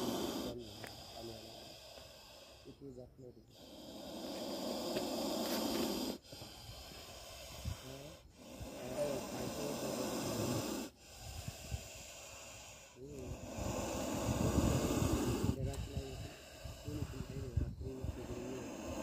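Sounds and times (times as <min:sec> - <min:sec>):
snake hissing: 0:00.0 - 0:19.0.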